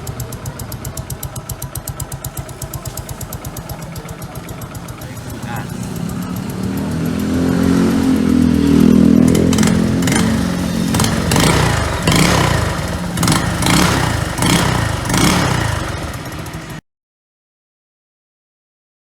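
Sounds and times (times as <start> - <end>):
scooter engine idling and revving: 0.0 - 16.8.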